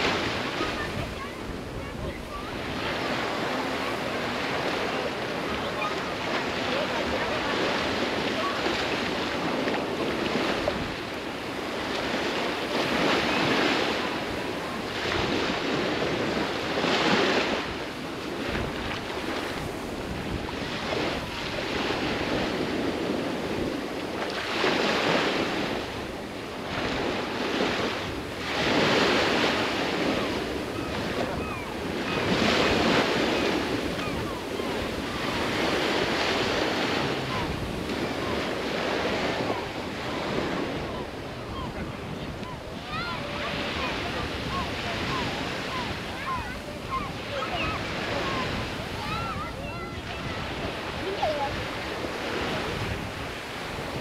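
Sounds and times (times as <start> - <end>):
sea surf washing onto beach: 0.0 - 54.0
wind: 0.0 - 54.0.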